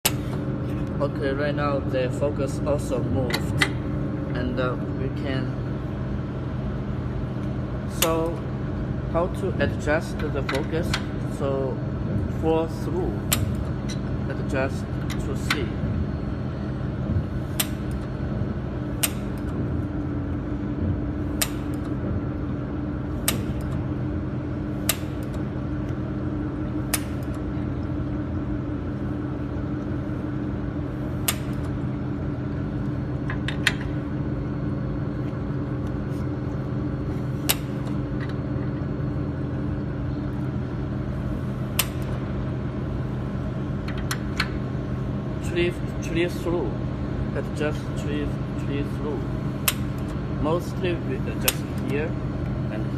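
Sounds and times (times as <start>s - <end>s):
welding machine hum: 0.0s - 52.9s.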